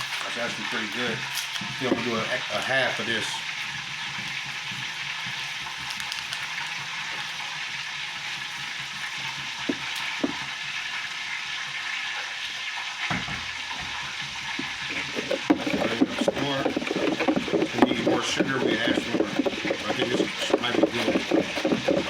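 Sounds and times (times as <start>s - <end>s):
hot oil sizzling in a pot: 0.0s - 22.0s.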